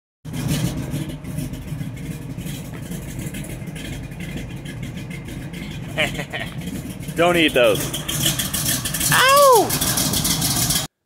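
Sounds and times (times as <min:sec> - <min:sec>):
vehicle engine running: 0:00.2 - 0:10.9.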